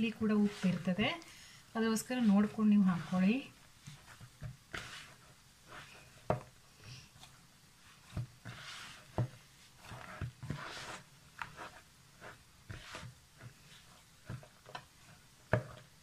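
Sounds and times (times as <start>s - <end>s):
dough squishing and rubbing: 0.0s - 16.0s.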